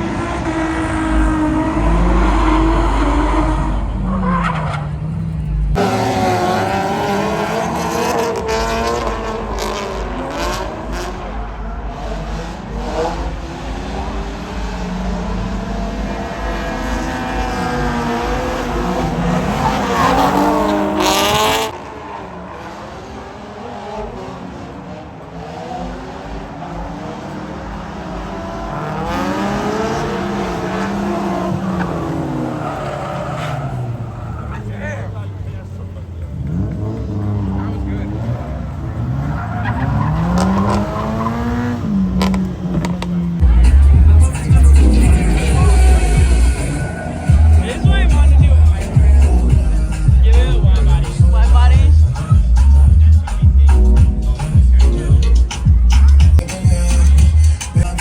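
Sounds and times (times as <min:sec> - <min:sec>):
car engines revving hard: 0:00.0 - 0:58.0
tires squealing: 0:00.0 - 0:58.0.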